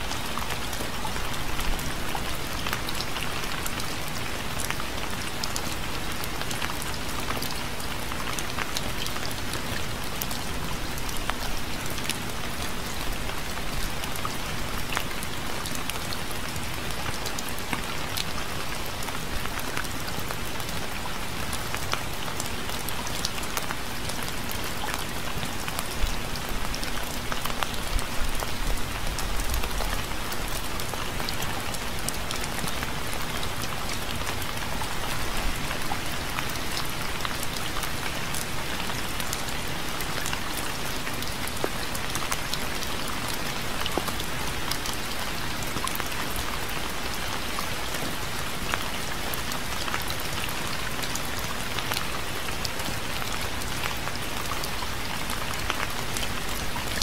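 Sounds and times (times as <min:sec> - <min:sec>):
steady rain with dripping drops: 0:00.0 - 0:57.0.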